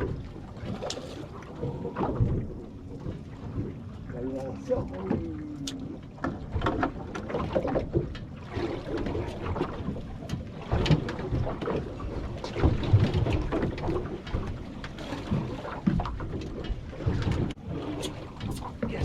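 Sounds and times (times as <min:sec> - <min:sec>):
knocks and clunks on boat: 0:00.0 - 0:19.0
water noise: 0:00.0 - 0:19.0.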